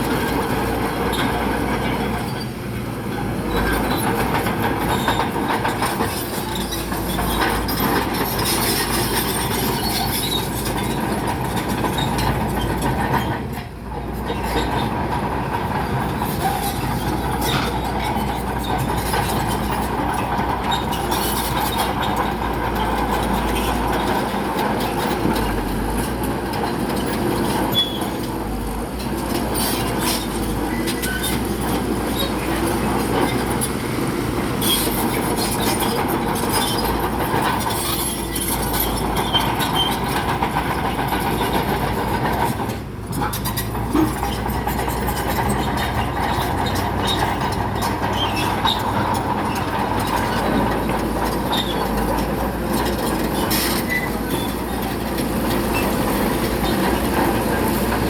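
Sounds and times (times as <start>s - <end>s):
bulldozer engine under load: 0.0s - 58.0s
steel tracks clanking and squealing: 0.0s - 58.0s.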